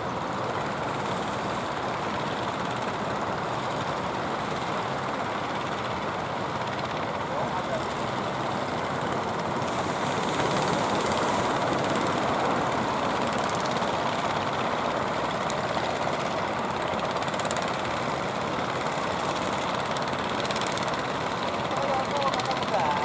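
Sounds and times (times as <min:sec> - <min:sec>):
boat engines droning: 0:00.0 - 0:23.0
wind: 0:00.0 - 0:23.0
sea rushing: 0:00.1 - 0:23.0.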